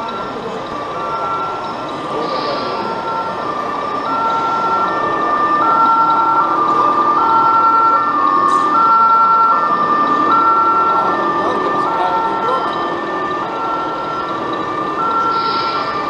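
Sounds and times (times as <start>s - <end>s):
busy hall background noise: 0.0s - 16.0s
two-tone siren: 0.0s - 16.0s.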